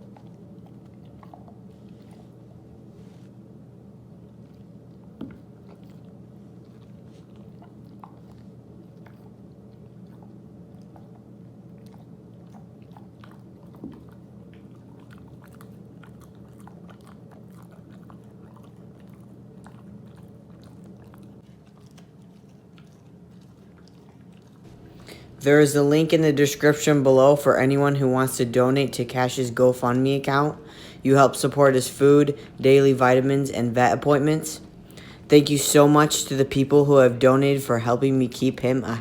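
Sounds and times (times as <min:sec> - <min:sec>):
dog gnawing on a chew: 0:00.0 - 0:03.4, 0:04.0 - 0:37.6
steady low hum: 0:00.0 - 0:39.0.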